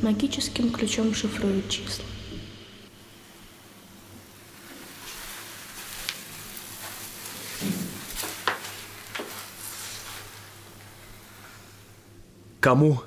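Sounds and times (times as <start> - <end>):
sizzling crackling hiss: 0.0 - 12.6.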